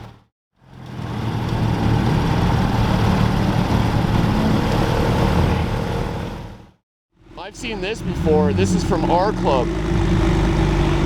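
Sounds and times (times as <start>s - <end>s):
car engine driving past: 0.6s - 11.0s.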